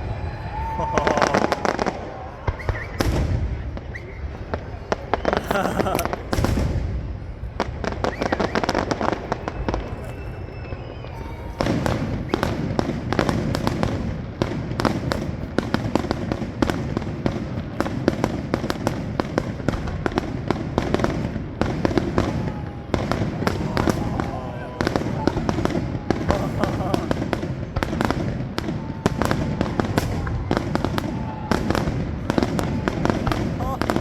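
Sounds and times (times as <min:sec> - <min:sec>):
fireworks crackling: 0:00.0 - 0:34.0.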